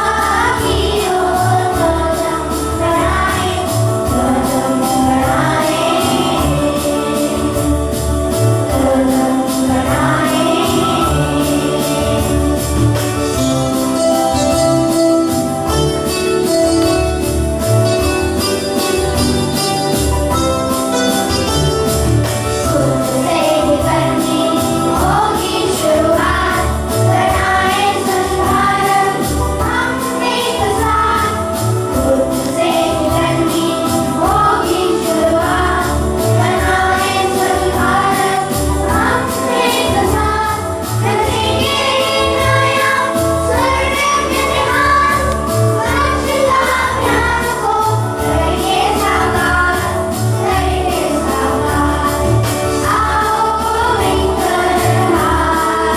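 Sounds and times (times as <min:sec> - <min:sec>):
person singing: 0:00.0 - 0:13.5, 0:22.4 - 0:55.9
instrumental music with steady beat: 0:00.0 - 0:55.9.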